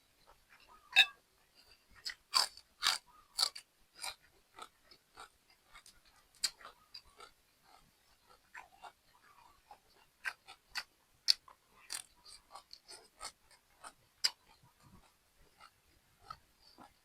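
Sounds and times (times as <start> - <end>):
wet chewing and lip-smacking: 1.6 - 17.0.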